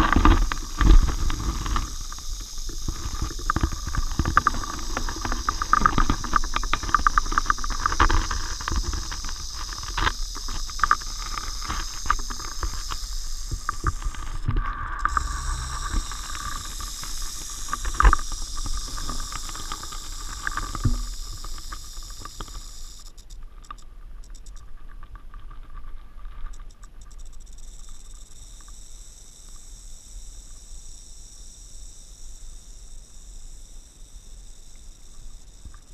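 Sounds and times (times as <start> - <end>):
rattlesnake rattling: 0.0 - 24.6, 26.4 - 35.9.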